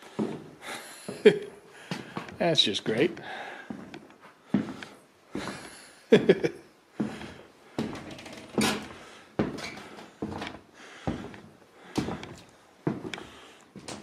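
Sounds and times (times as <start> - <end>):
footsteps walking: 0.0 - 14.0.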